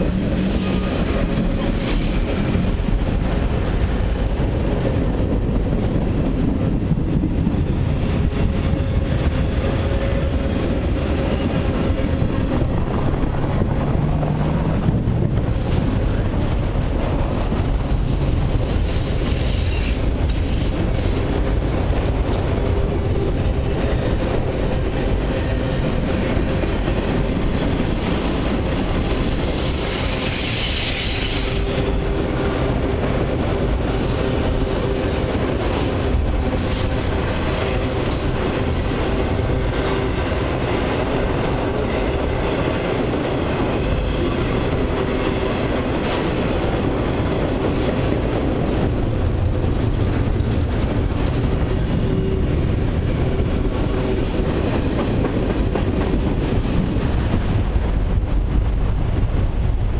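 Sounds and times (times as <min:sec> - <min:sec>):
clickety-clack at rail joints: 0:00.0 - 0:59.9
train wheels rumbling on rail: 0:00.0 - 0:59.9.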